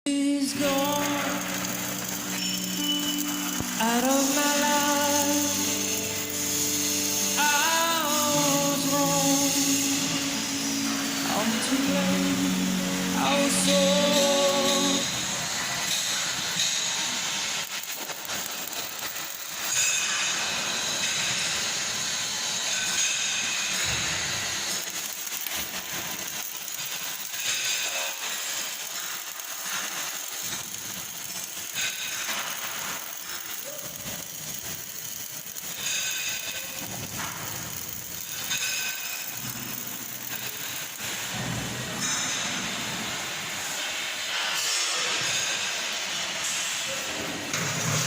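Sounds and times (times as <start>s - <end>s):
welding arc hissing and crackling: 0.1s - 48.0s.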